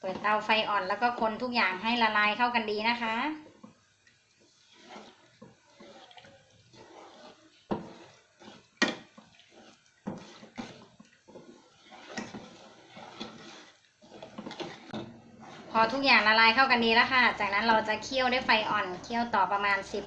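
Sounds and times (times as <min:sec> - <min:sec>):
liquid sloshing and scraping: 0:03.0 - 0:20.0.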